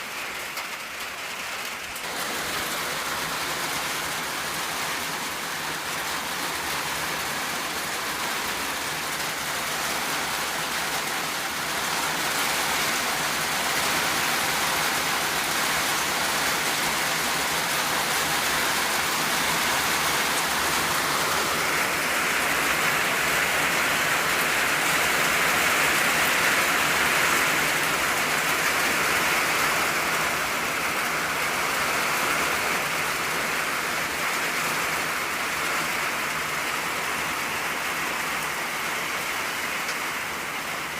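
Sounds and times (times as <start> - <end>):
rain drumming on a tin roof: 0.0 - 40.9.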